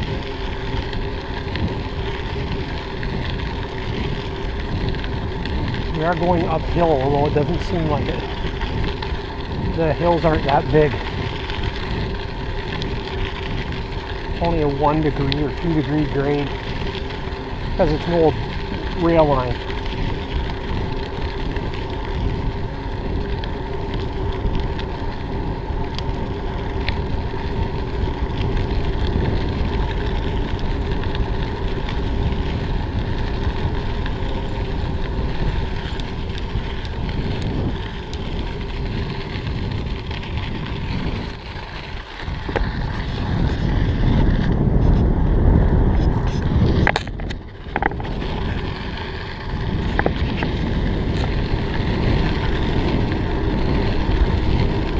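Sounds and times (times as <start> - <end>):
bike rattles: 0.0 - 54.9
bike tyres on gravel: 0.0 - 54.9
wind on microphone: 0.0 - 54.9.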